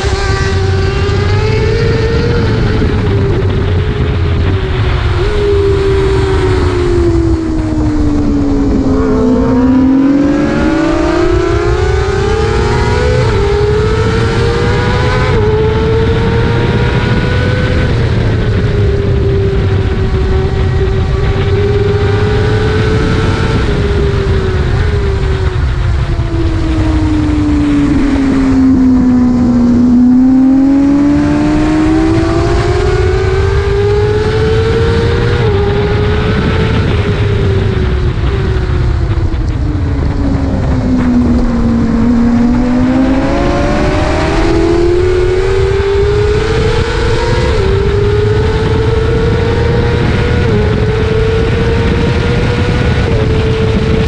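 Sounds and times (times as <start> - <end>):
motorbike engine at high revs: 0.0 - 54.0
wind rushing: 0.0 - 54.0.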